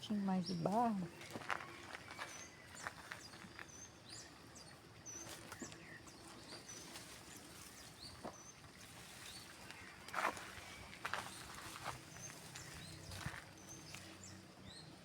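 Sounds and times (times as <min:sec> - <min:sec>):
small birds chirping: 0:00.0 - 0:15.0
scrapes and knocks in soil: 0:00.6 - 0:03.8, 0:05.1 - 0:14.4.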